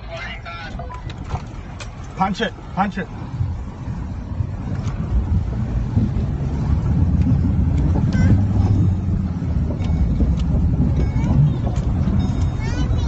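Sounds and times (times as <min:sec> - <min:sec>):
vehicle engine rumbling under throttle: 0:00.0 - 0:13.0.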